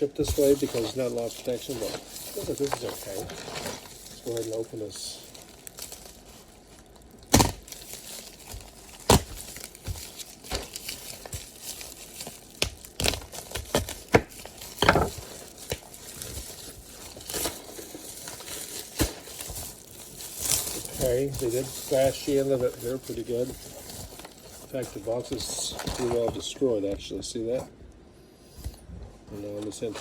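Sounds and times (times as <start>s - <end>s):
paper tearing and crumpling: 0.0s - 26.4s.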